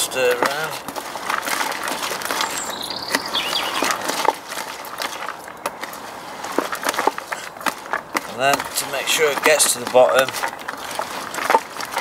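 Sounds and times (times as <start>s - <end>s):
hand stirring bait in bucket: 0.0s - 12.0s.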